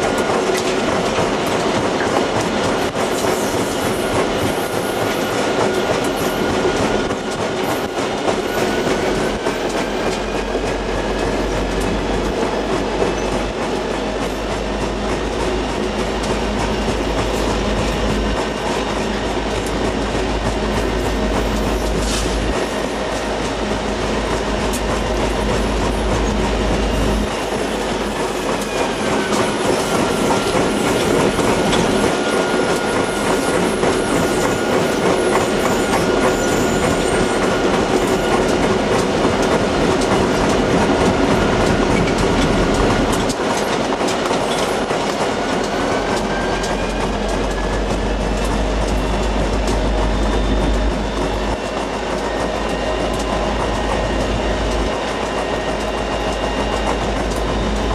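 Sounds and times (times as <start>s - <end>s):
wheels clicking over rail joints: 0.0s - 57.9s.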